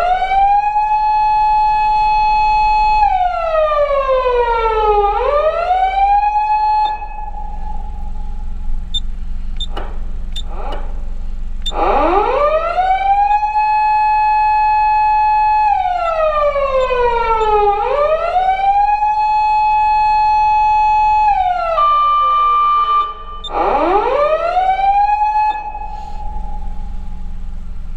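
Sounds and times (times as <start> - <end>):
fire-engine siren: 0.0 - 9.0, 11.7 - 27.9
steady low hum: 0.0 - 27.9.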